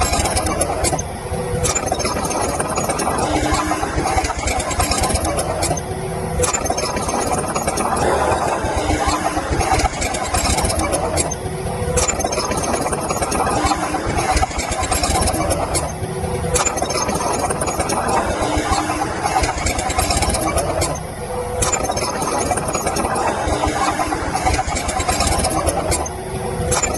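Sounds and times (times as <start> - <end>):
heavy machinery engine running: 0.0 - 26.9.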